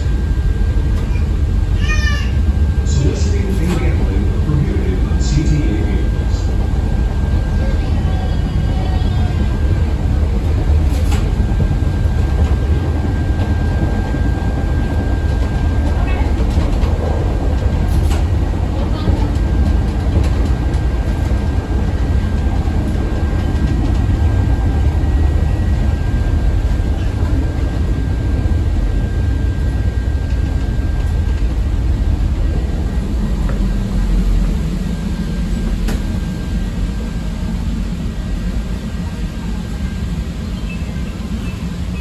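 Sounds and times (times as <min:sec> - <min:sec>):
train wheels rumbling: 0:00.0 - 0:42.0.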